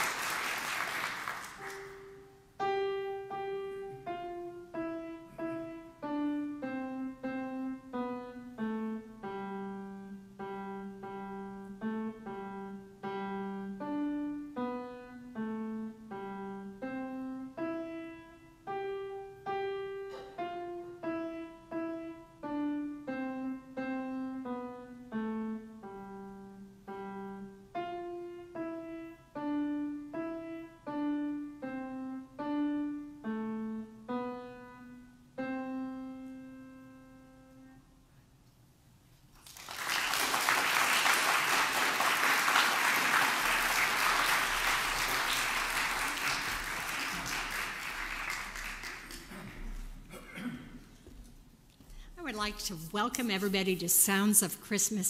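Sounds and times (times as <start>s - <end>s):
slow piano melody: 0.0s - 38.2s, 40.4s - 51.7s.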